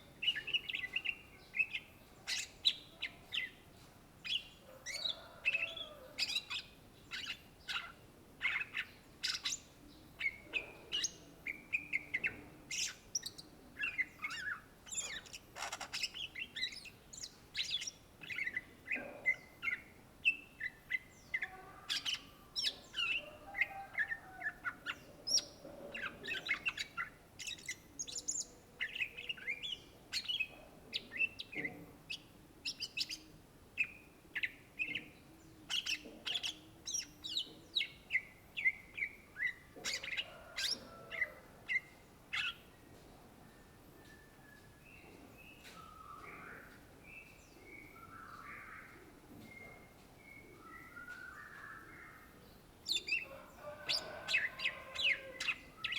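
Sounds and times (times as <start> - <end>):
leafbird singing varied song: 0.0 - 42.9, 43.5 - 55.9.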